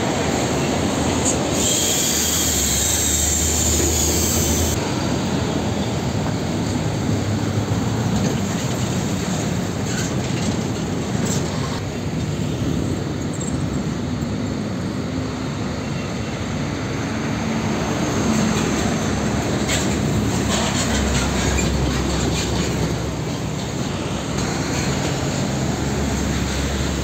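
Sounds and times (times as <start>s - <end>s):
truck engines droning: 0.0s - 27.0s
tyre and road noise: 0.0s - 27.0s.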